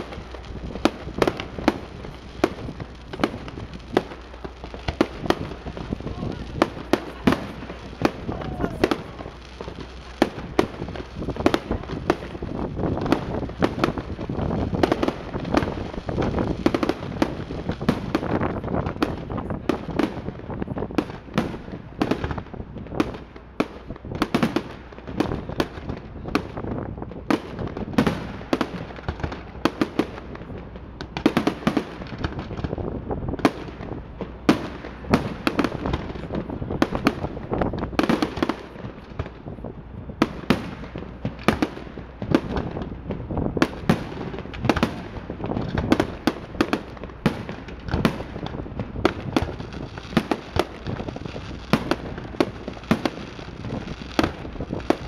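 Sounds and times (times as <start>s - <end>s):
crackling firework stars: 0.0s - 55.0s.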